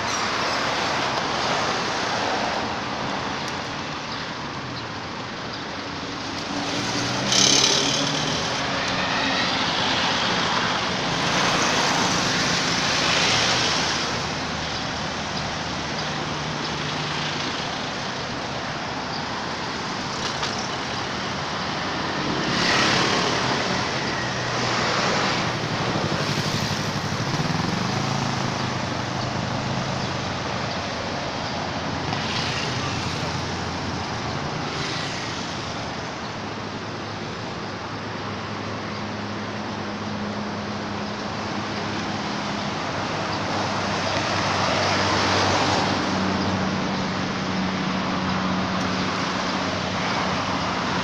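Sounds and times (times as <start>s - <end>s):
low engine hum of traffic: 0.0s - 51.0s
vehicles passing: 0.0s - 51.0s.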